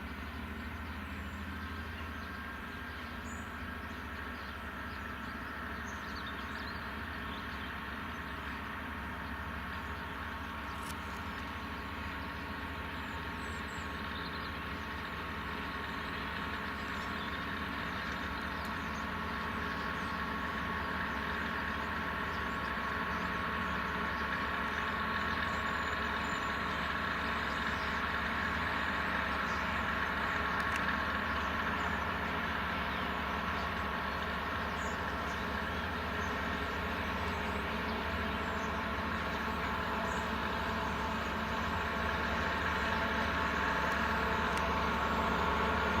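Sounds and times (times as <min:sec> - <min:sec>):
diesel locomotive engine running: 0:00.0 - 0:46.0.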